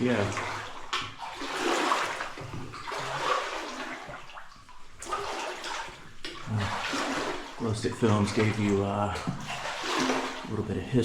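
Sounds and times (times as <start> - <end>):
water splashing from wading: 0.0 - 11.0.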